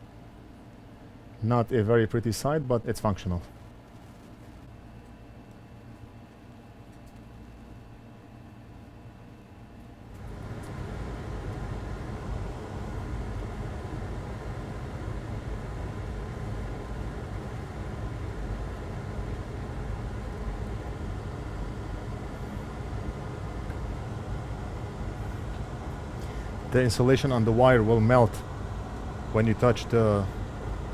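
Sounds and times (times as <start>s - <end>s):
mechanical fan whir: 0.0s - 30.9s.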